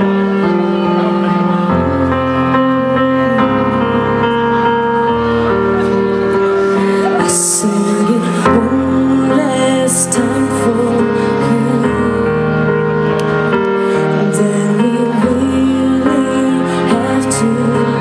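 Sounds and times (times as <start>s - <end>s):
sustained keyboard chords: 0.0s - 18.0s.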